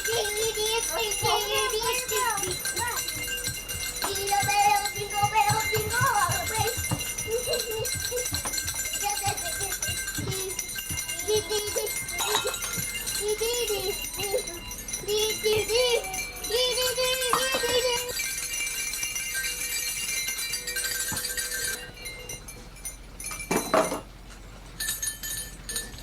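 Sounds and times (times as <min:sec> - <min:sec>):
bells ringing and jingling: 0:00.0 - 0:24.1, 0:24.8 - 0:26.0
rattling shakes and knocks: 0:00.0 - 0:24.1.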